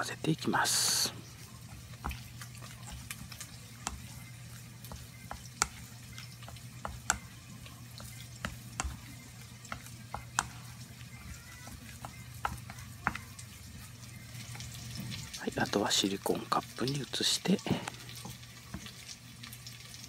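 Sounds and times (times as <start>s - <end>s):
chopsticks stirring mashed squash: 0.0s - 19.2s.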